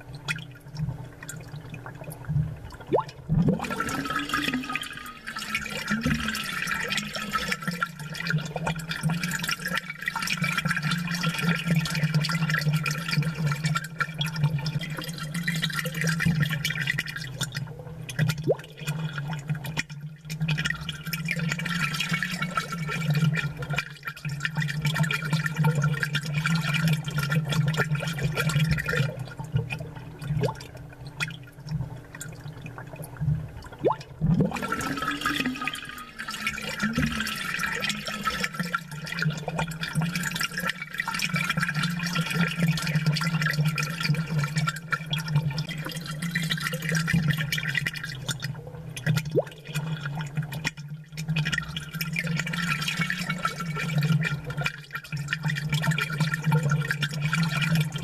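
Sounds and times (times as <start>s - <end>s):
aquarium bubbles crackling: 0.0s - 58.0s
water gurgles: 0.0s - 58.0s.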